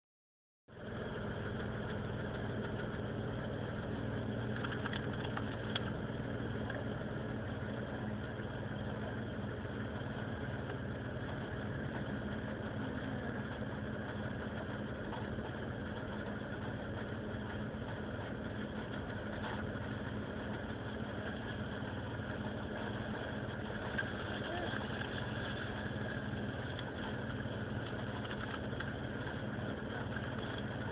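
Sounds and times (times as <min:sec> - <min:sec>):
car engine rough idle: 0:00.7 - 0:30.9.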